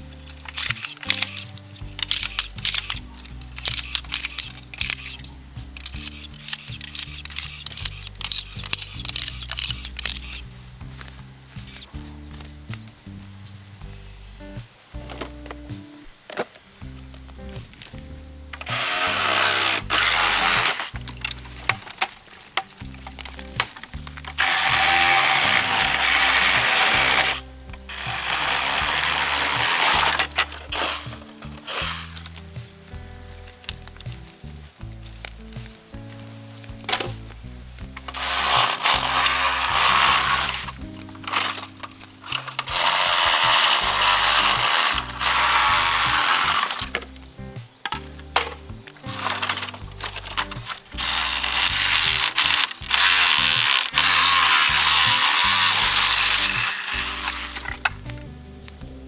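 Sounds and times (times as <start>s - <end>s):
electric chainsaw cutting bamboo: 0.0s - 12.0s, 18.6s - 32.5s, 35.6s - 58.2s
background music low notes: 0.0s - 59.0s
sharp clicks: 0.1s - 13.0s, 14.6s - 58.8s.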